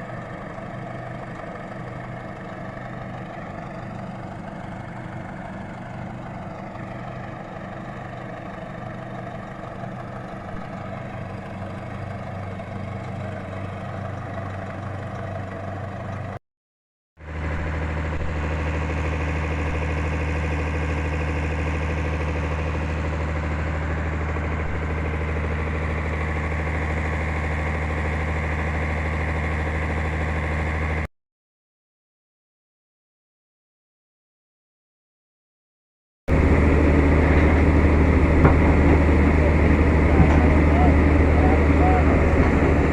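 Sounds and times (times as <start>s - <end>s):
engine running: 0.0s - 16.4s, 17.2s - 31.1s, 36.3s - 42.9s.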